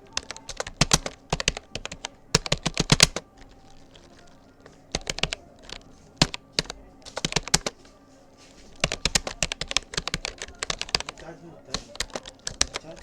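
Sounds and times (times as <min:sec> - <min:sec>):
computer keyboard typing: 0:00.0 - 0:13.0.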